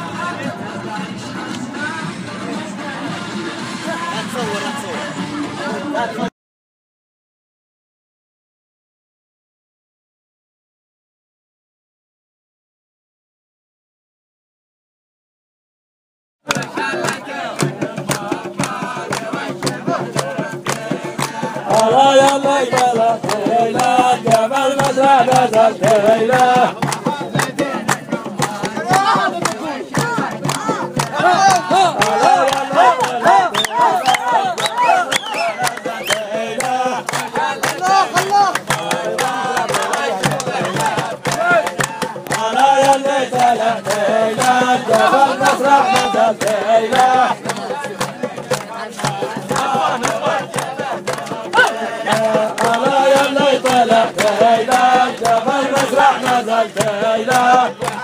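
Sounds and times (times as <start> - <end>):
steady percussion beat: 0.0 - 6.2, 16.4 - 58.0
men singing a folk chant: 0.0 - 6.3, 16.4 - 58.0
sharp rhythmic hits: 0.0 - 6.3, 16.4 - 58.0.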